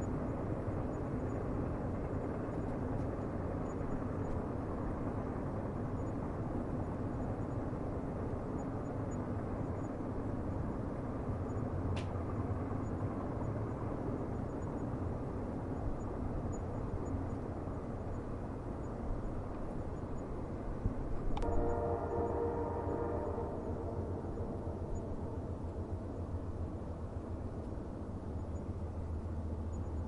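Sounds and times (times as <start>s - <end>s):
distant train rumbling on rails: 0.0s - 30.0s.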